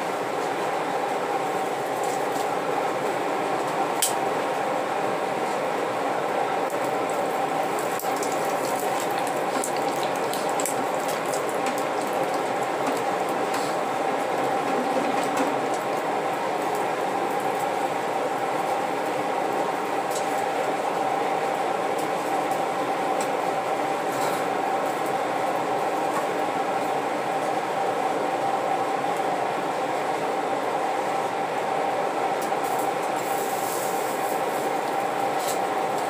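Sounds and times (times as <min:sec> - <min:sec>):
fire crackling: 0:00.0 - 0:36.0.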